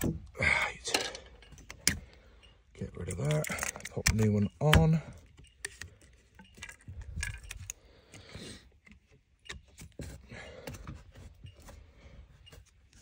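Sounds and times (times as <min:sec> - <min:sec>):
plastic pipe fitting clicks and rustles: 0:00.0 - 0:13.0.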